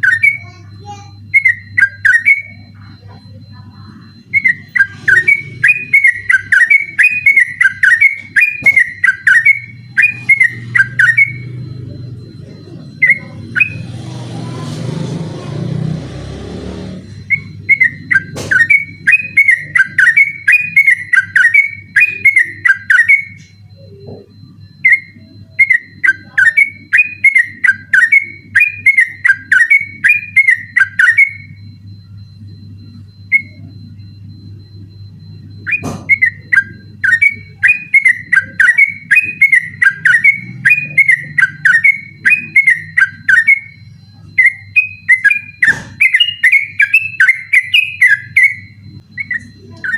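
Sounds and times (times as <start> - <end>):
bird singing bubbling notes: 0.0 - 49.9
steady low hum: 0.0 - 49.9.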